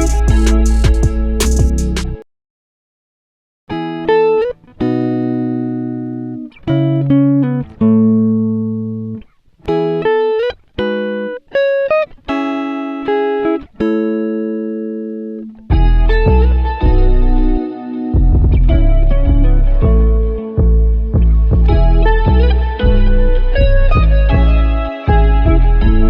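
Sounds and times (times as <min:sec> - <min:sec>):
plucked guitar-like melody: 0:00.0 - 0:02.2, 0:03.7 - 0:26.0.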